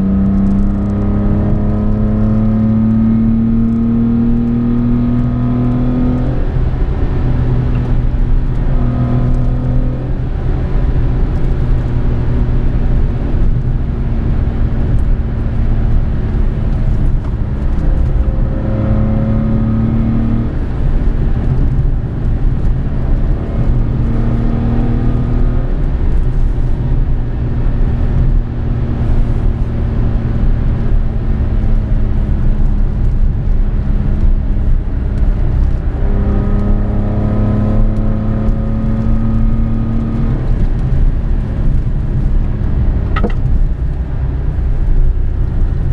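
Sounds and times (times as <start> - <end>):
car engine pulling under throttle: 0.0 - 45.9
road and tyre rumble: 0.0 - 45.9.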